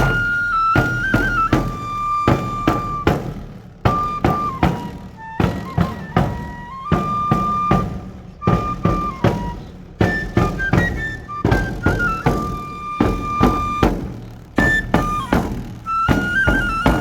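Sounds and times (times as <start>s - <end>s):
drum strokes: 0.0s - 17.0s
wooden pipe melody: 0.0s - 17.0s.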